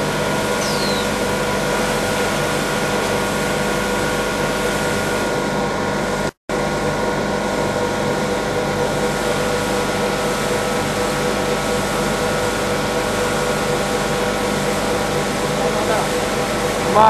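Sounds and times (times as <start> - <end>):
packing machine humming: 0.0 - 17.0.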